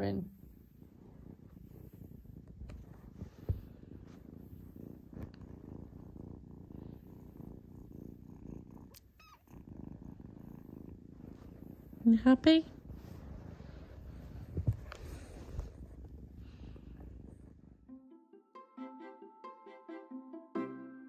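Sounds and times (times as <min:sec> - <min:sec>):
kitten purring: 0:00.0 - 0:17.9.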